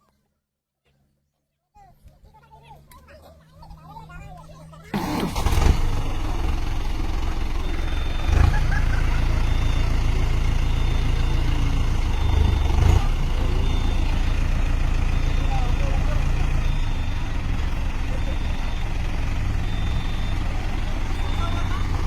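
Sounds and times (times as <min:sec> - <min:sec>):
diesel tractor engines running: 0:02.0 - 0:22.0.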